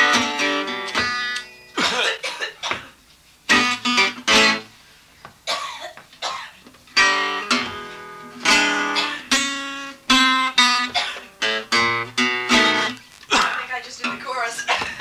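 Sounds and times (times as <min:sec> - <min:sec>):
acoustic guitar strumming: 0:00.0 - 0:04.8, 0:06.2 - 0:14.7.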